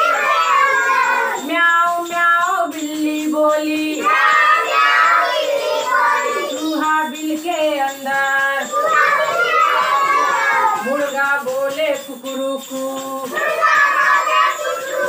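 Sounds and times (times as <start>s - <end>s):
children singing in unison: 0.0s - 2.7s, 3.6s - 11.8s, 12.8s - 15.0s.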